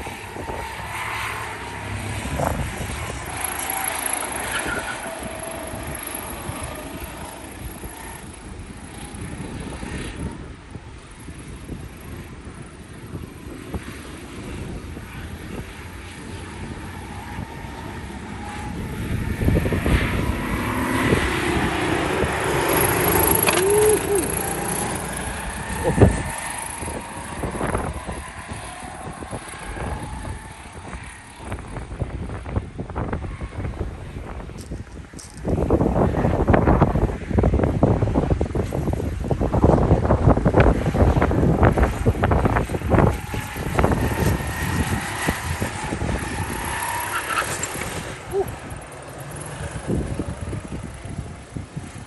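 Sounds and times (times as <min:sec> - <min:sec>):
go-kart engines whining: 0:00.0 - 0:52.0
wind buffeting microphone: 0:00.0 - 0:52.0.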